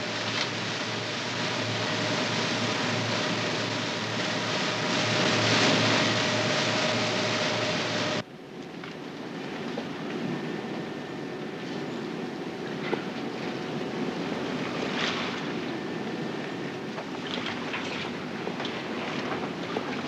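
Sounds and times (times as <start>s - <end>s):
water rushing in wake: 0.0s - 8.3s, 9.3s - 20.0s
motorboat engine humming: 0.0s - 20.0s
wind: 0.0s - 20.0s.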